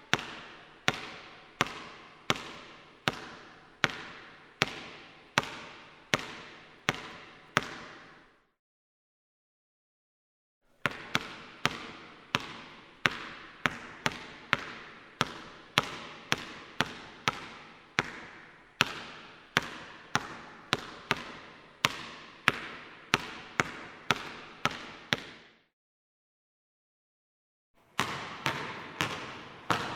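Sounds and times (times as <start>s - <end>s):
basketball bouncing: 0.1s - 8.2s, 10.8s - 25.5s, 27.9s - 29.9s.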